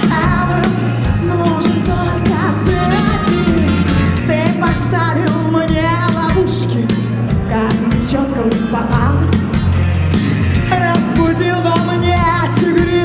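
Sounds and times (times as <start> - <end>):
person singing: 0.0 - 9.6, 10.6 - 13.0
upbeat pop-rock music: 0.0 - 13.0.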